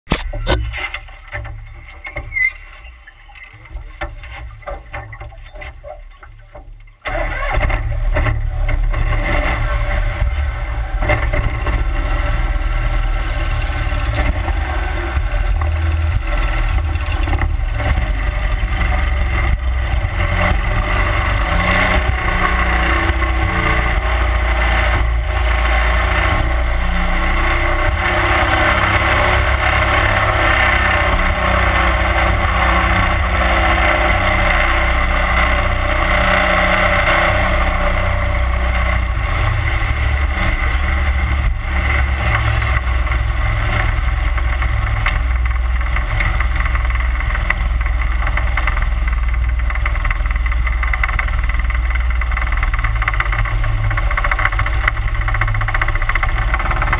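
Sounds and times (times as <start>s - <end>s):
boat motor droning: 0.1s - 56.9s.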